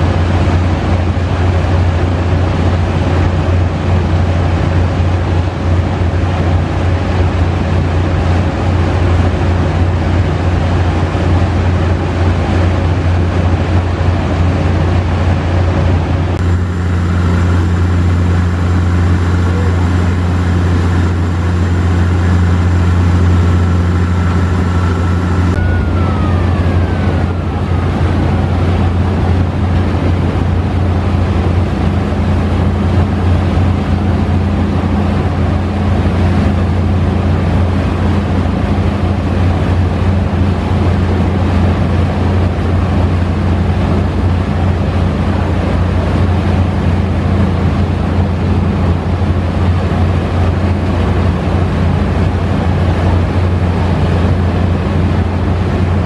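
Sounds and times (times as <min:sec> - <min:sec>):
boat engine drone: 0:00.0 - 0:56.0
water rushing from hull: 0:00.0 - 0:56.0
wind on microphone: 0:00.0 - 0:56.0.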